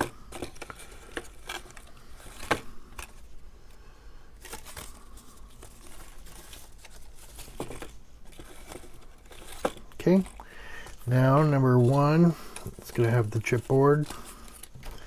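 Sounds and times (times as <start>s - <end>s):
cardstock rustling: 0.0s - 3.4s, 4.4s - 15.0s.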